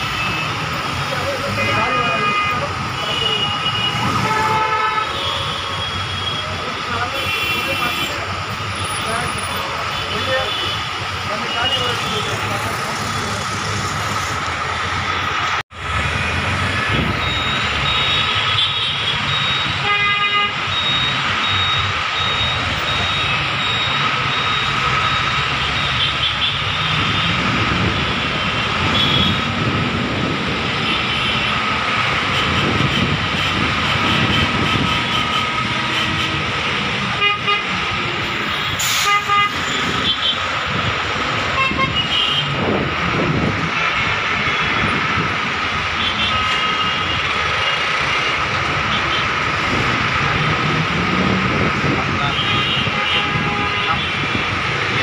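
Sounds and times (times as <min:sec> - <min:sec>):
idling traffic din: 0:00.0 - 0:55.0.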